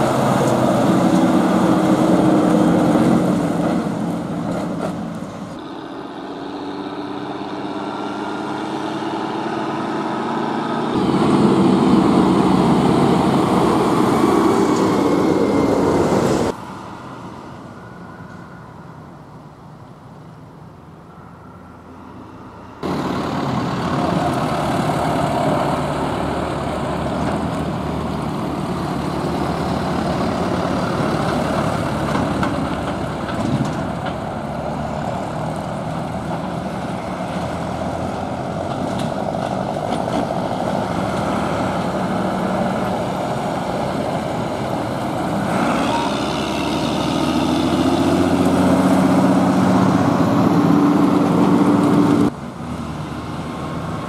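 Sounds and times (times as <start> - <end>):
tractor diesel engines passing: 0.0 - 54.0.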